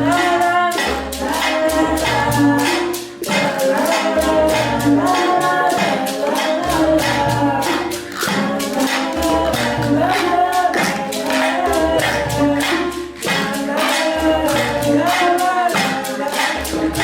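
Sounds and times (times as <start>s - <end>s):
percussive beat: 0.0s - 17.0s
singing: 0.0s - 17.0s.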